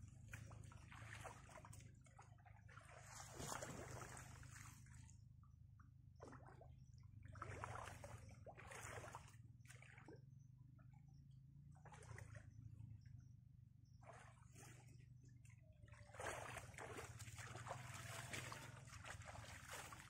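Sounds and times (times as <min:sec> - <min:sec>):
water splashing and trickling: 0:00.0 - 0:10.2, 0:14.0 - 0:20.0.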